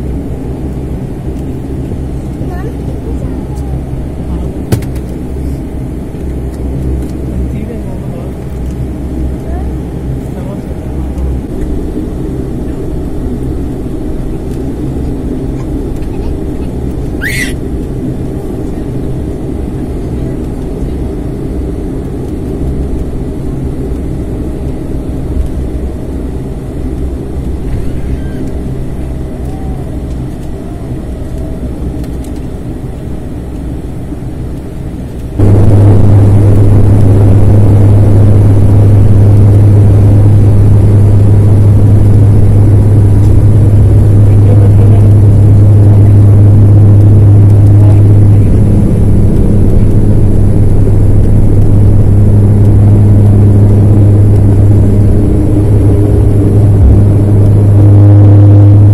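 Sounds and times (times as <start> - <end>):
turboprop engines droning: 0.0 - 58.9.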